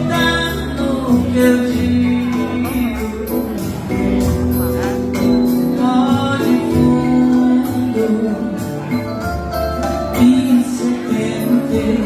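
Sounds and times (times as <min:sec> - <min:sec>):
song with singing: 0:00.0 - 0:12.0.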